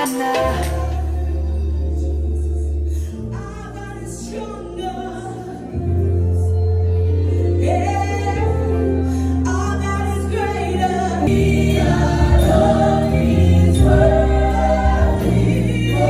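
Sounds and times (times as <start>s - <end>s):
held bass notes: 0.0s - 16.0s
worship team singing gospel: 0.0s - 16.0s.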